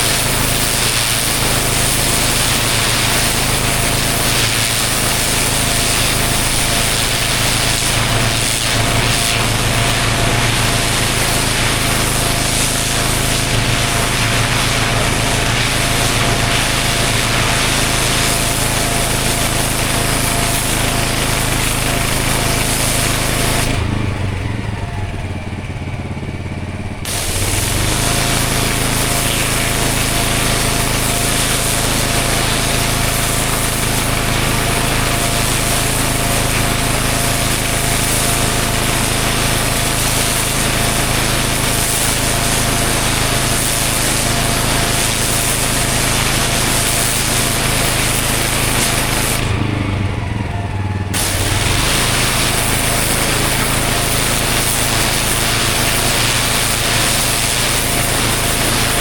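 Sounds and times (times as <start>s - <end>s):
water jet spraying on paving: 0.0s - 26.1s, 26.9s - 59.0s
pressure washer engine: 0.0s - 59.0s.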